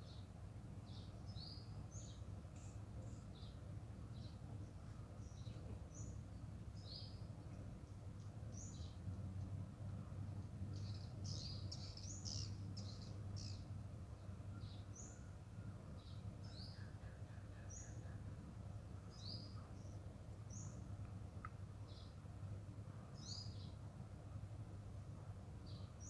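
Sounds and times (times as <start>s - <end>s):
small birds chirping: 0.0s - 24.2s, 25.6s - 26.0s
faint low hum: 0.0s - 26.0s.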